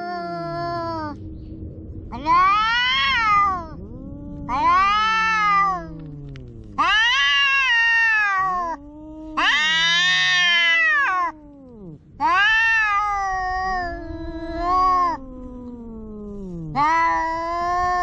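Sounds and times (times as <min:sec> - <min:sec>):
cat meowing loudly: 0:00.0 - 0:01.2, 0:02.1 - 0:18.0.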